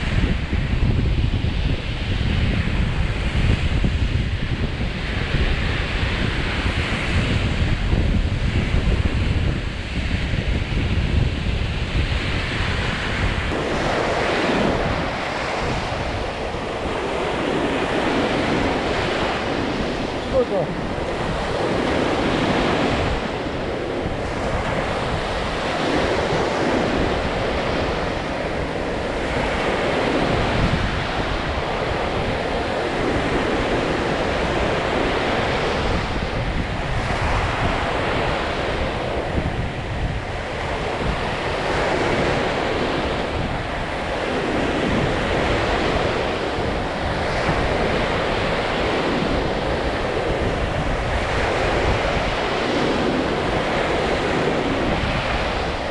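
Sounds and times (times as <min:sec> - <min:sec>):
waves breaking on beach: 0:00.0 - 0:55.9
wind rumbling on microphone: 0:00.0 - 0:55.9.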